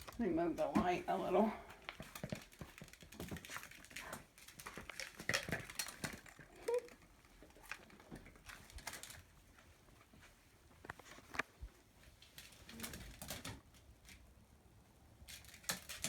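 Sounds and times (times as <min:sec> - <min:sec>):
paws and toy balls pattering: 0:00.0 - 0:14.2.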